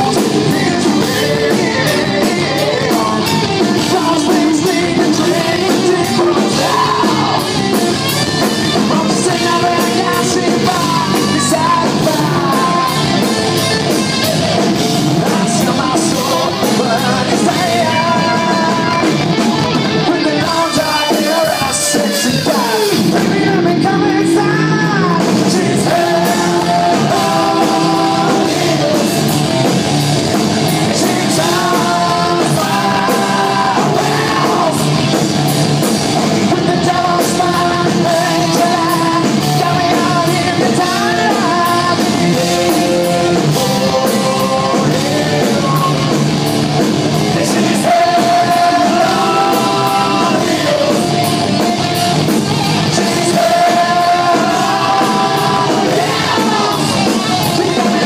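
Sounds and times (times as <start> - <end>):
person singing: 0.0 - 14.0, 14.6 - 29.8, 30.4 - 35.3, 36.2 - 46.3, 47.2 - 58.0
rock band playing live: 0.0 - 58.0.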